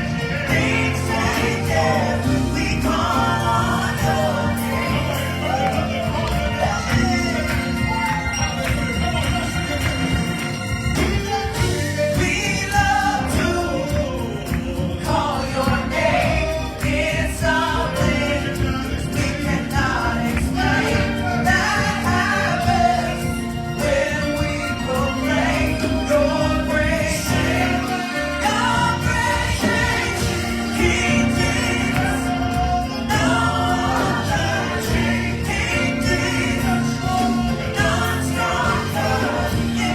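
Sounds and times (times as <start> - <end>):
gospel choir singing: 0.0 - 39.9
live band accompaniment: 0.0 - 39.9.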